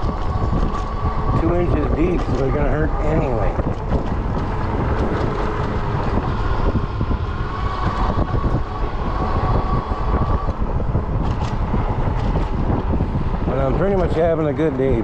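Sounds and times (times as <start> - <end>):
faint steady whine: 0.0 - 15.0
tires rolling over rough road: 0.0 - 15.0
wind buffeting microphone: 0.0 - 15.0.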